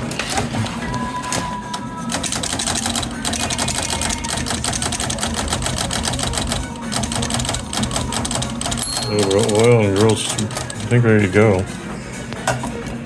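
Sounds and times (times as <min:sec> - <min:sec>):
manual typewriter clacking: 0:00.0 - 0:11.1.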